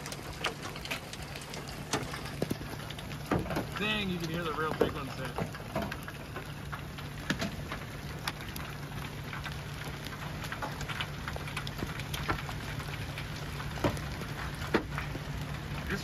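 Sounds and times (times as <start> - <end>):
large hailstones cracking: 0.0 - 16.0
patter of small hail and rain: 0.0 - 16.0.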